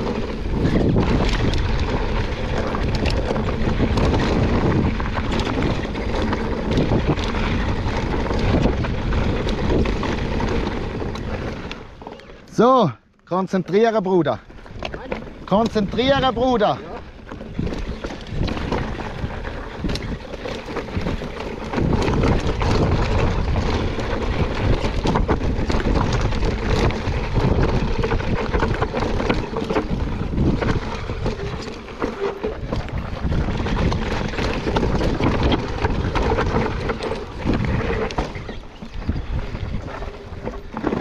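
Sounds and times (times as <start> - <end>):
wind buffeting microphone: 0.0 - 12.0, 14.4 - 41.0
bike rattling: 0.0 - 41.0
tyres rumbling on trail: 0.0 - 41.0.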